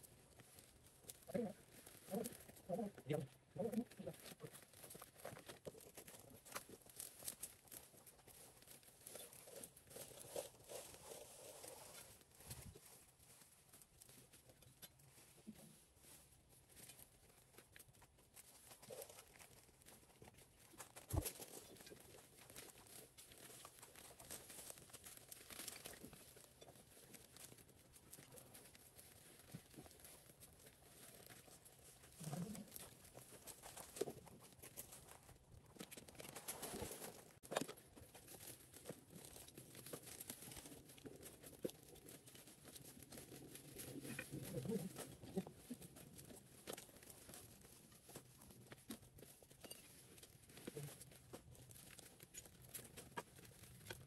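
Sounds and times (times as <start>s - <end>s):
faint rustling and crinkling: 0.0s - 54.0s.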